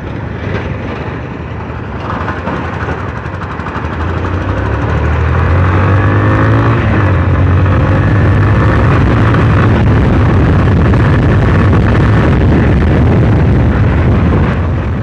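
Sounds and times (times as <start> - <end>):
motorcycle engine running: 0.0 - 15.0
road noise rushing: 0.0 - 15.0.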